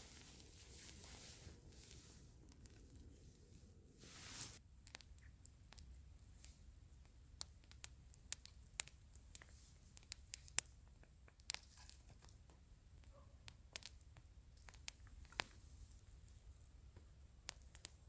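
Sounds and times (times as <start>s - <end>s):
campfire wood crackling: 0.0s - 18.0s.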